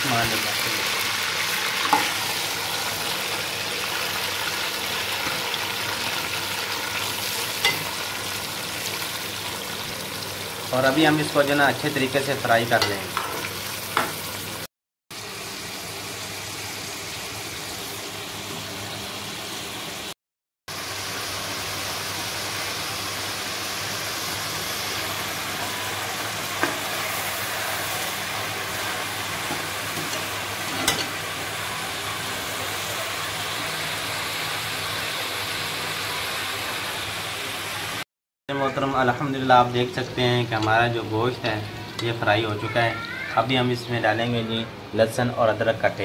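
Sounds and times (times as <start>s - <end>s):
chicken sizzling in hot fat: 0.0s - 38.0s, 38.8s - 44.5s.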